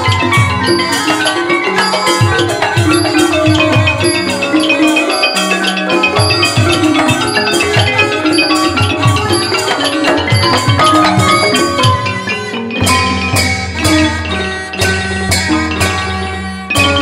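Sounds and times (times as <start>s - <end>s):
xylophones and gong circles: 0.0s - 17.0s.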